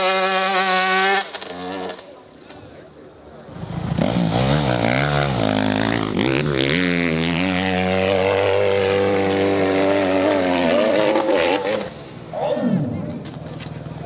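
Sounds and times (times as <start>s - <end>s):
dirt bike engine revving: 0.0s - 2.2s, 3.5s - 13.0s.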